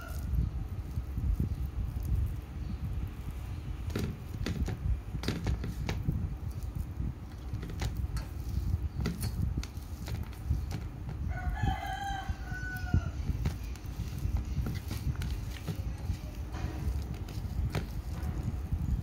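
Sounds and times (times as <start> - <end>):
hand squelching rice in steel bowl: 0.0 - 11.3, 13.1 - 18.9.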